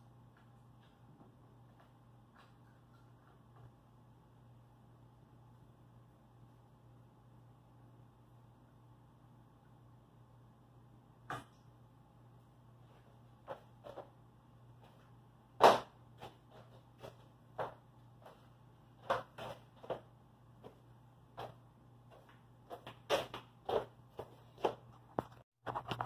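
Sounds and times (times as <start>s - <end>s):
faint steady hum: 0.0s - 25.4s.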